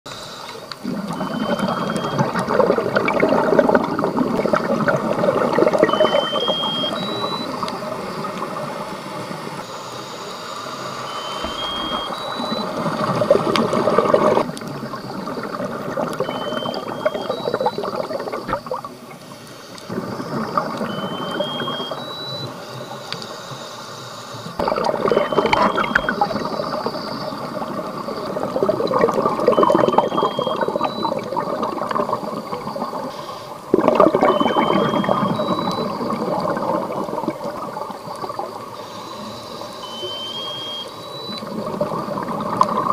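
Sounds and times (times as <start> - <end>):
electronic underwater chirp: 0.3 - 8.6, 9.6 - 19.0, 19.9 - 23.1, 24.4 - 42.9
scuba exhaled breath bubbles: 0.7 - 9.6, 11.1 - 22.2, 24.5 - 39.4, 41.2 - 42.9.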